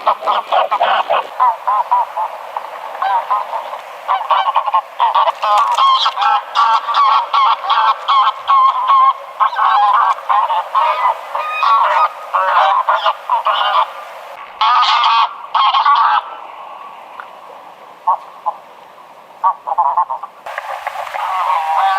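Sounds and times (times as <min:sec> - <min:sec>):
goose honking: 0:00.0 - 0:14.0, 0:14.6 - 0:16.4, 0:19.4 - 0:21.9.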